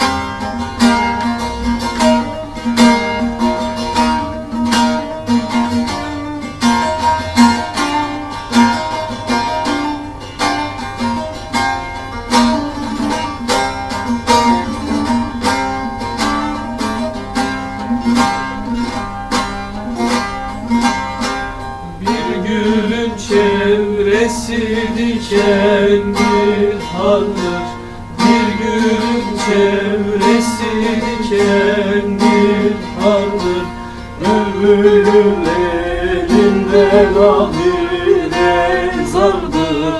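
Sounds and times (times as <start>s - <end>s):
fast plucked string folk music: 0.0s - 39.9s.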